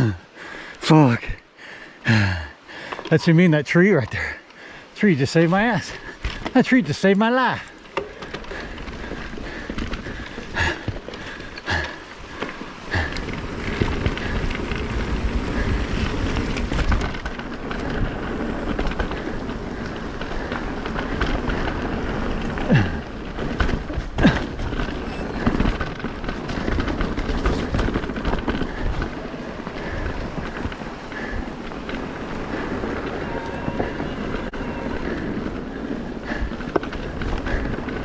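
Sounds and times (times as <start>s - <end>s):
tyre and trail noise: 2.8s - 38.0s
bike rattling: 5.3s - 38.0s.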